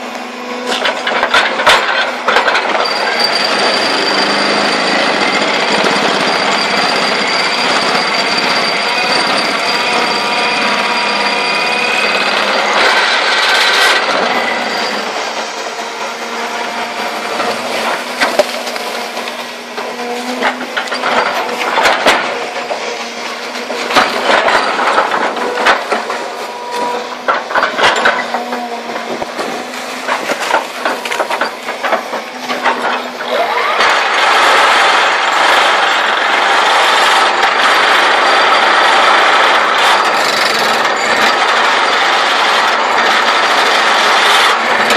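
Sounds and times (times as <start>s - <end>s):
loud mechanical buzz of ripper: 0.0s - 44.9s.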